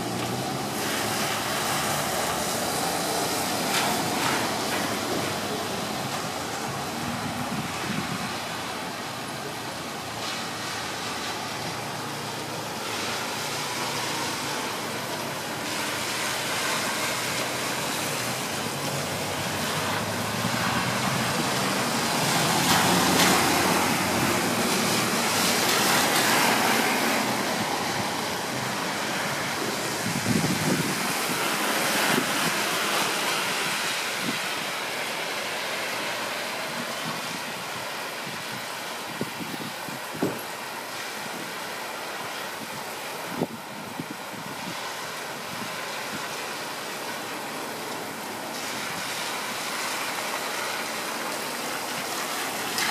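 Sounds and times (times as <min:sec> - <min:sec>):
road traffic: 0:00.0 - 0:52.9
wind: 0:00.0 - 0:52.9.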